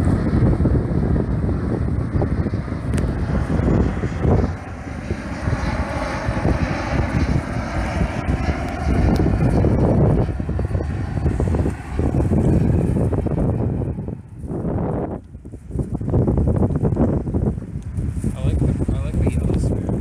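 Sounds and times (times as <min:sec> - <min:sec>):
faint engine whine: 0:00.0 - 0:20.0
jet engines rumbling: 0:00.0 - 0:20.0
wind buffeting microphone: 0:00.0 - 0:20.0.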